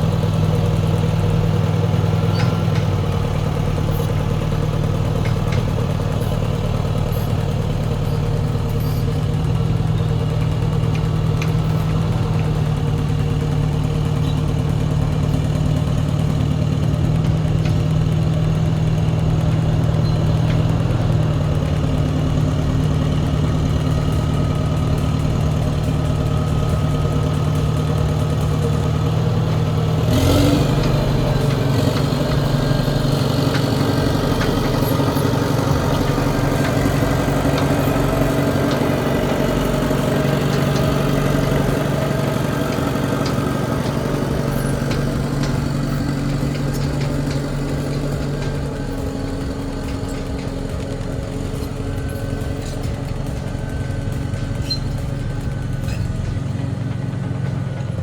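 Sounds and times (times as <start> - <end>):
track loader engine running: 0.0 - 58.0.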